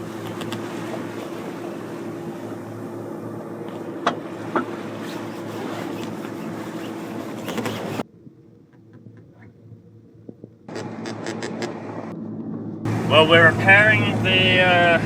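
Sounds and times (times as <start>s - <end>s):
boat engine running: 0.0s - 8.0s, 10.7s - 15.0s.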